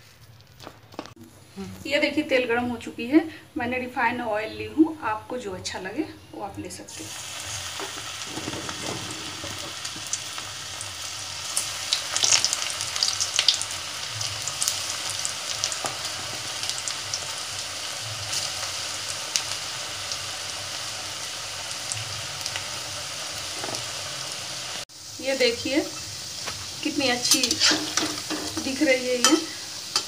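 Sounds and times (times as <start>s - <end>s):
batter deep-frying in oil: 4.0s - 30.0s.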